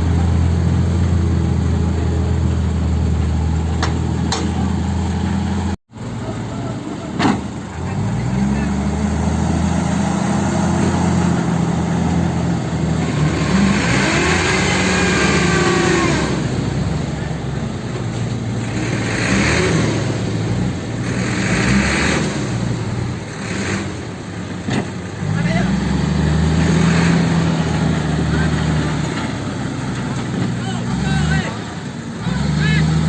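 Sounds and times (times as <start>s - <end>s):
heavy diesel engine revving: 0.0s - 33.0s.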